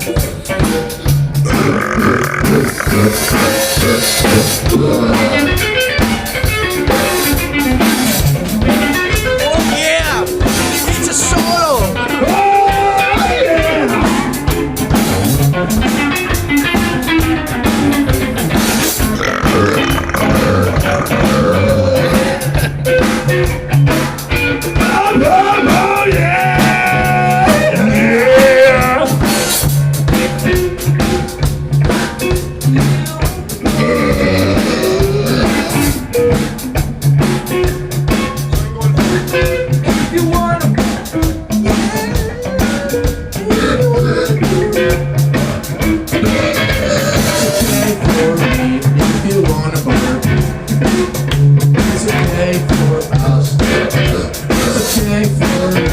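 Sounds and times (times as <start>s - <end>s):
blues-rock band: 0.0s - 55.9s.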